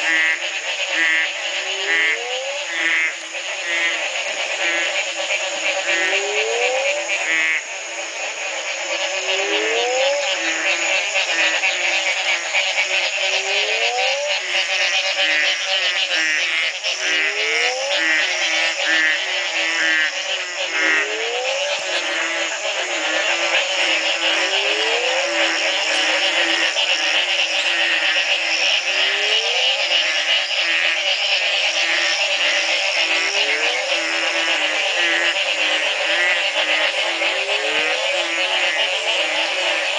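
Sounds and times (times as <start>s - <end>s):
frog low repeated note: 0.0s - 39.9s
frog trills and chirps: 0.0s - 39.9s.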